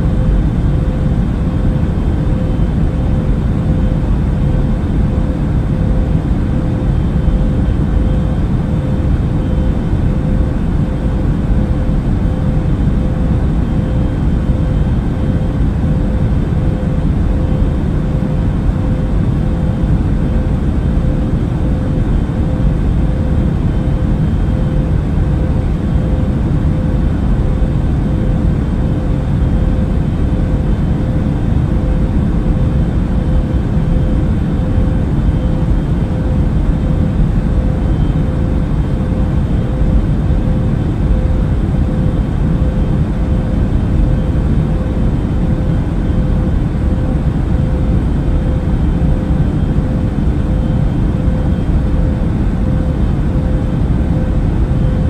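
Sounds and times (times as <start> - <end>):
airliner engines rumbling: 0.0 - 55.0
constant hum tone: 0.0 - 55.0.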